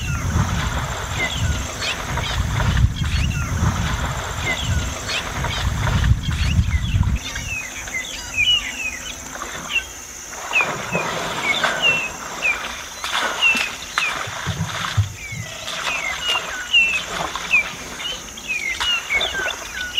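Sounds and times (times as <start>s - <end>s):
high insect drone: 0.0s - 19.9s
small birds chirping: 0.0s - 19.9s.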